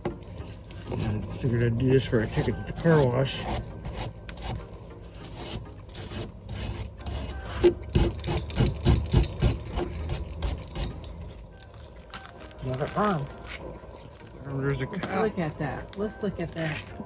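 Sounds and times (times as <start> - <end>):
metal and plastic scraping: 0.0 - 17.0.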